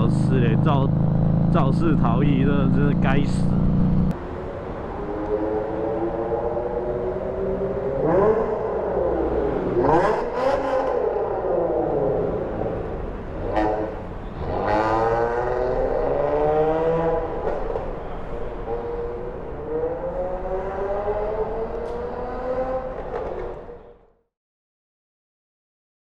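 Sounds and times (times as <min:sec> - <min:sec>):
vehicle engines accelerating: 0:00.0 - 0:24.1.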